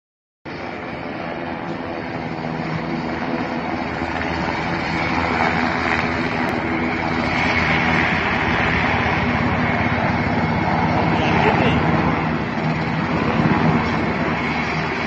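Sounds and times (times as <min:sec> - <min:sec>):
helicopter engines and rotor: 0:00.5 - 0:15.0.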